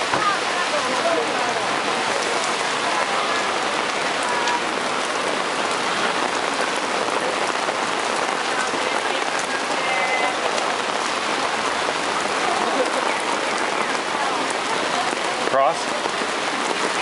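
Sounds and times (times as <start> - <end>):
rain pattering on umbrella: 0.0 - 17.0
rain splashing on wet pavement: 0.0 - 17.0.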